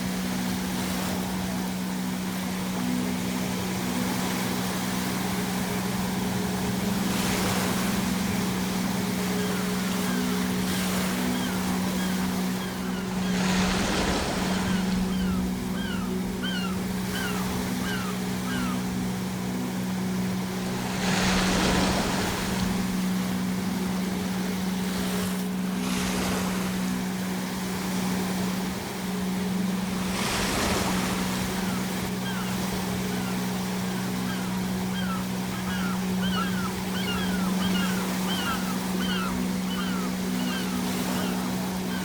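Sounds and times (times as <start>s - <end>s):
gulls calling: 0.0s - 42.0s
sea waves crashing: 0.0s - 42.0s.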